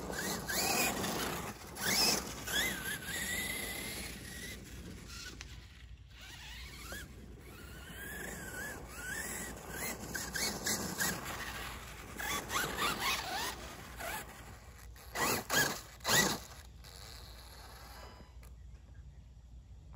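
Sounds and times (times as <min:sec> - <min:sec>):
tyres sliding on dirt: 0:00.0 - 0:18.3
electric motor whining: 0:00.0 - 0:18.5.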